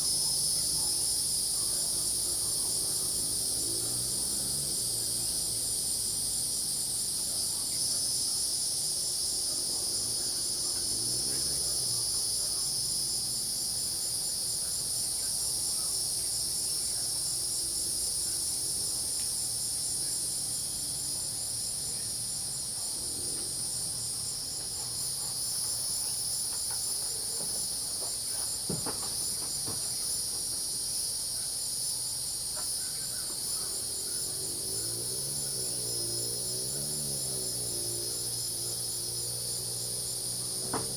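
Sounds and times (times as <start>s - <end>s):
crickets and cicadas chirping: 0.0s - 40.9s
frogs calling faintly: 0.0s - 40.9s.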